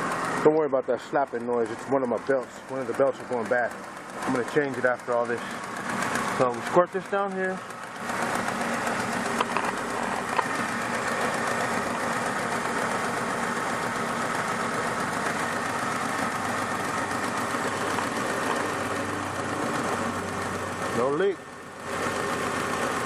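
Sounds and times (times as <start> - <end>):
car engine idling: 0.0 - 23.0
drive belt slapping: 0.1 - 23.0.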